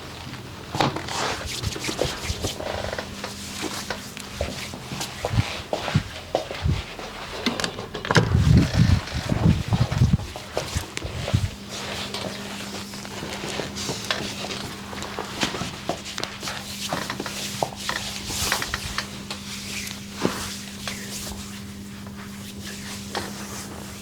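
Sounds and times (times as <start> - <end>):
steady low hum: 0.0 - 24.0
hands rubbing skin and cloth: 1.0 - 7.5, 8.3 - 24.0.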